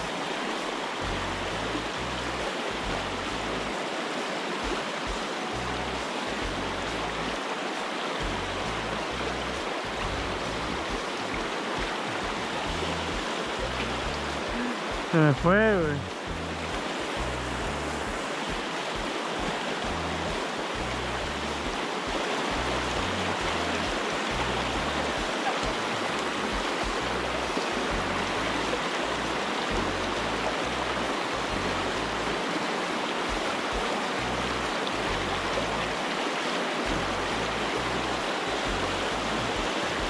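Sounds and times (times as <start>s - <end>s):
river rapids rushing over rocks: 0.0s - 40.0s.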